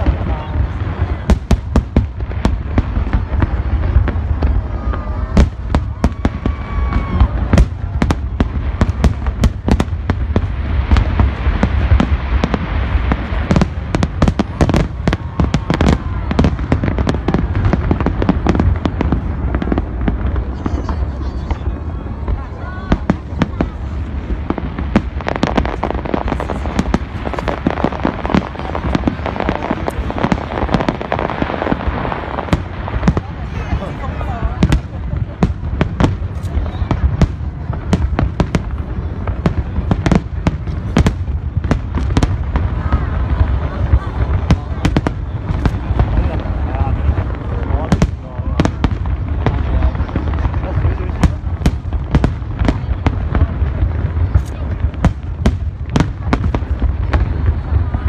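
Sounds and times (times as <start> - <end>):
continuous low rumble: 0.0 - 58.0
fireworks bursting with sharp bangs: 0.0 - 58.0.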